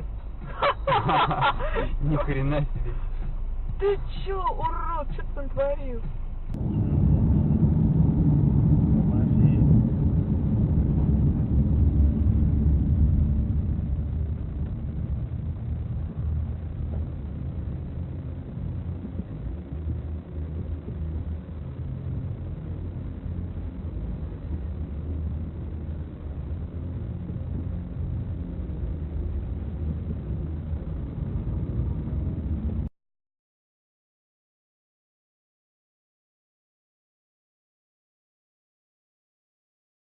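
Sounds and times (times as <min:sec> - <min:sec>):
car engine and road noise: 0:00.0 - 0:32.9.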